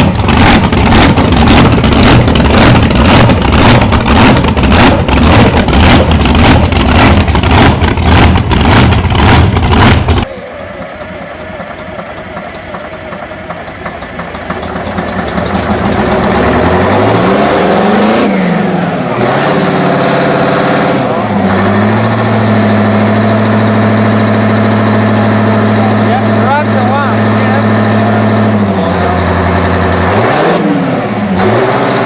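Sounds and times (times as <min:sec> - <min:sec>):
engine running up: 0:00.0 - 0:32.0
loud engine firing pulses: 0:00.0 - 0:32.0.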